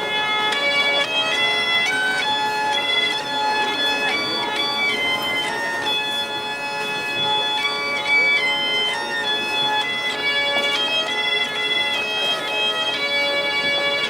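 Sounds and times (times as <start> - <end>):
bagpipe music with drone: 0.0 - 14.0.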